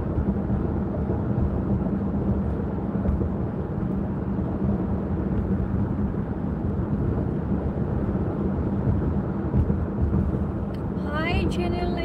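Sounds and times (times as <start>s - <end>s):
car engine rumble: 0.0s - 12.0s
tyre road noise: 0.0s - 12.0s.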